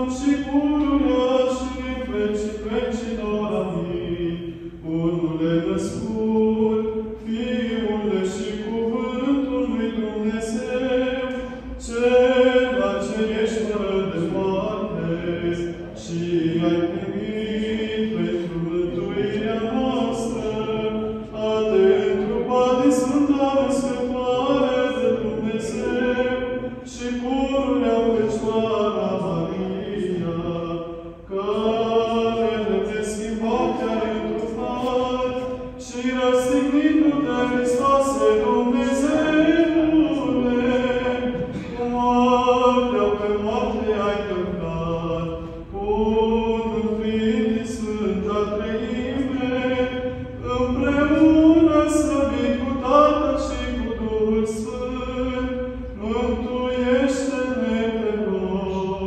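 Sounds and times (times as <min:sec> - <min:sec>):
choir chanting: 0:00.0 - 0:59.0.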